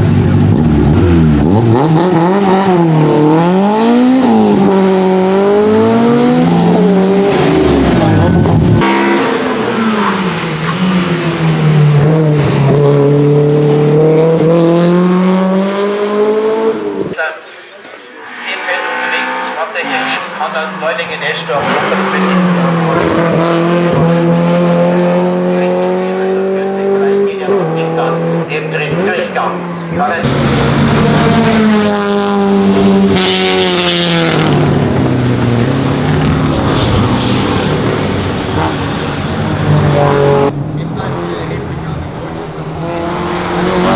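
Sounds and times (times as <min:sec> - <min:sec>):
racing car engine under load: 0:00.0 - 0:17.3, 0:17.9 - 0:43.9.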